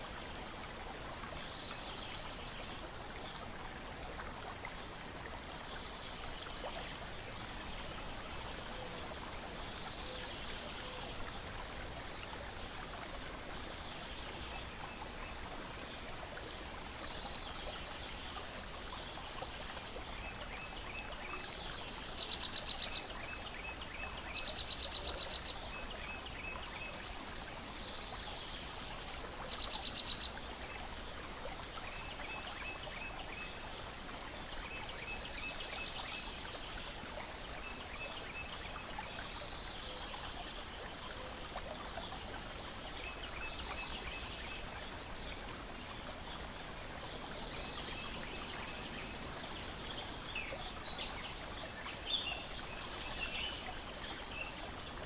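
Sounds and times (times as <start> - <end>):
water lapping and trickling: 0.0 - 55.0.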